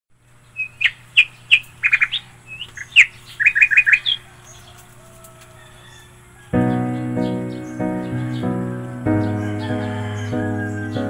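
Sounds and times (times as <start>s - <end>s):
small bird chirping: 0.3s - 5.0s, 5.6s - 11.0s.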